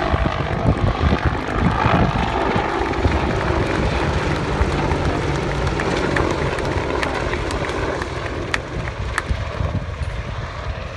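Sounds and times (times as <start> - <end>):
helicopter flying past: 0.0 - 10.9.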